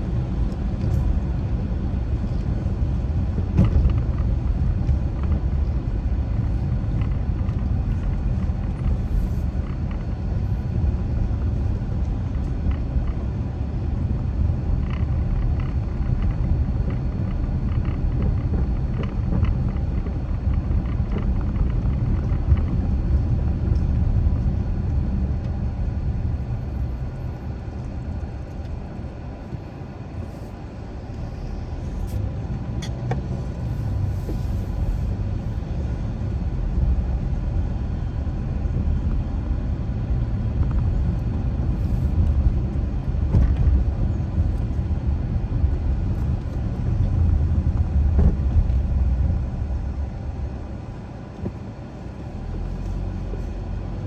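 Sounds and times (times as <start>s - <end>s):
car driving along street: 0.0s - 54.0s.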